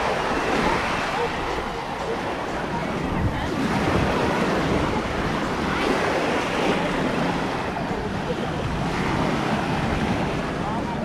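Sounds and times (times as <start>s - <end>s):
surf washing up on beach: 0.0s - 11.0s
wind noise on microphone: 0.0s - 11.0s.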